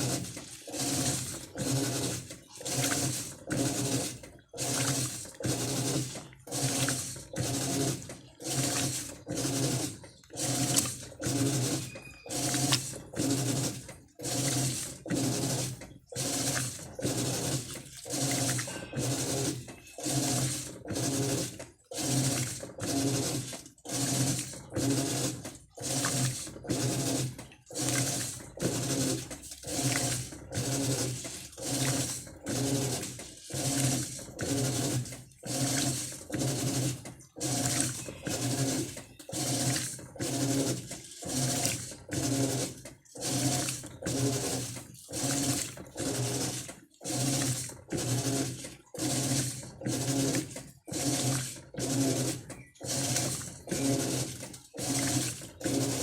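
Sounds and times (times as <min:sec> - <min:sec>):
washing machine motor humming: 0:00.0 - 0:56.0
water sloshing: 0:00.0 - 0:56.0.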